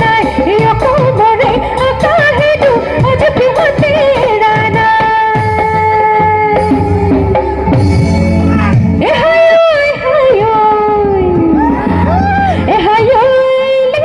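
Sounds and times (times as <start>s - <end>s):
woman singing: 0.0s - 7.2s, 9.0s - 14.0s
musical accompaniment: 0.0s - 14.0s.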